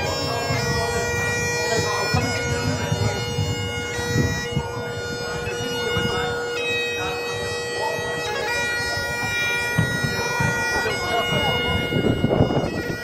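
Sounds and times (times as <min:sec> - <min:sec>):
bagpipe chanter notes: 0:00.0 - 0:13.0
bagpipe drones: 0:00.0 - 0:13.0.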